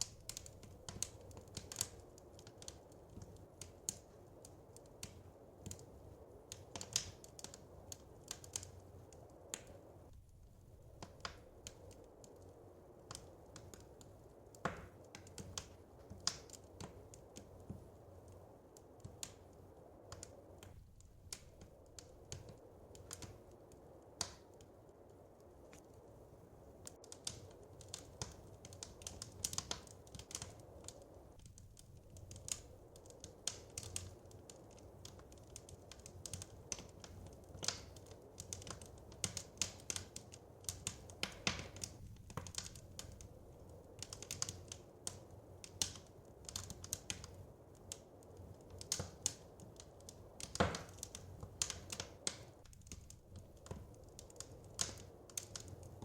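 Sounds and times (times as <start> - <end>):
wood fire crackling in fireplace: 0.0 - 56.0.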